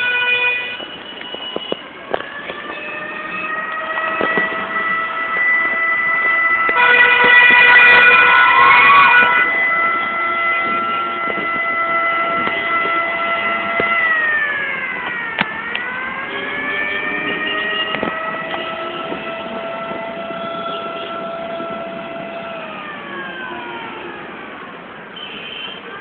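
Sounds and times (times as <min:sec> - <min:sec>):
fire engine siren: 0:00.0 - 0:26.0.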